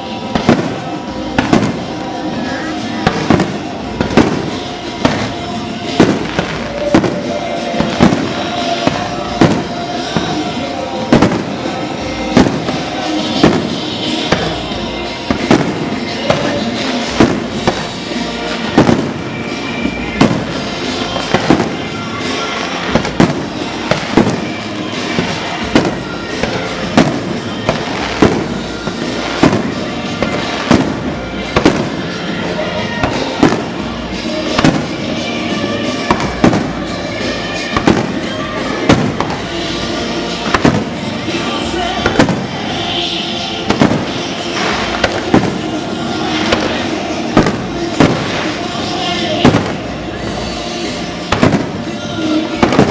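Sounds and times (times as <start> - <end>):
aerial fireworks bursting: 0.0 - 52.9
music: 0.0 - 52.9.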